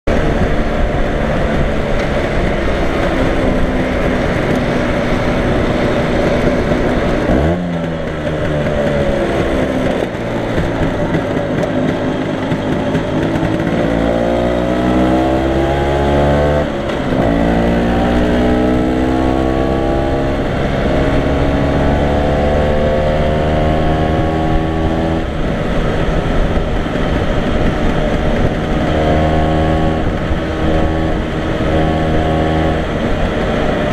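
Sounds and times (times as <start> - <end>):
rushing wind: 0.0 - 33.9
scooter engine accelerating: 0.1 - 33.9.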